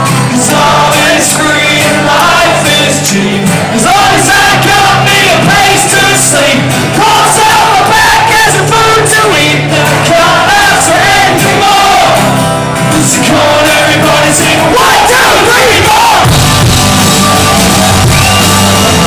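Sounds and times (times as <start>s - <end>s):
person singing: 0.0s - 16.4s
bass notes: 0.0s - 19.0s
crowd shouting and singing along: 0.0s - 19.0s
guitar: 0.0s - 19.0s.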